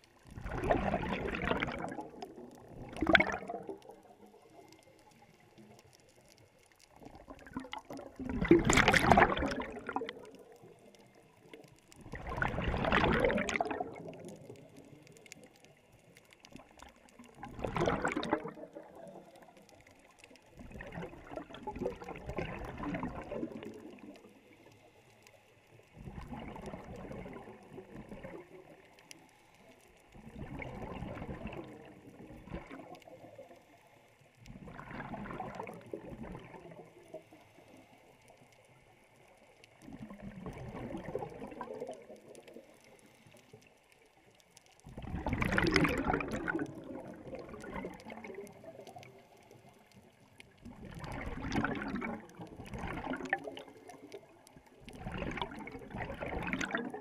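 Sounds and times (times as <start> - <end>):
underwater exhaust bubbles gurgling: 0.0 - 57.0.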